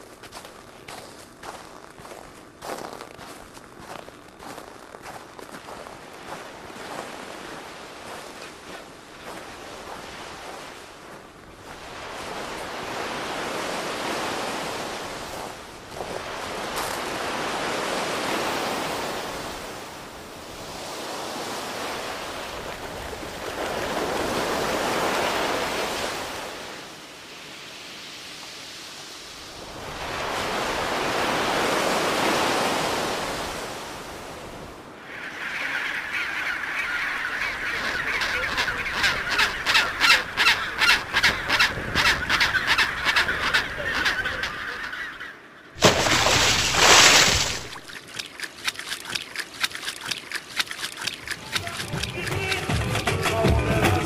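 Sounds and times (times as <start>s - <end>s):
sea waves breaking: 1.4s - 54.0s.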